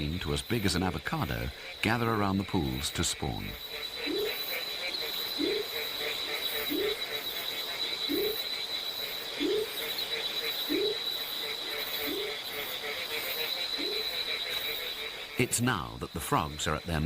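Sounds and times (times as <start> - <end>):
high insect trill: 0.0 - 16.8
tree frogs calling: 0.0 - 17.0.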